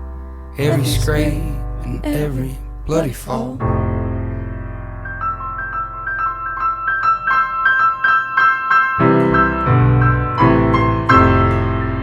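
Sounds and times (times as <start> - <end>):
low sustained piano chords: 0.0 - 12.0.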